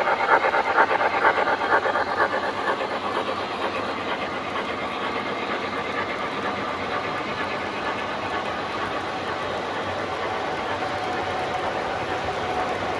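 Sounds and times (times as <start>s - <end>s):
model train wheels rattling: 0.0s - 12.9s.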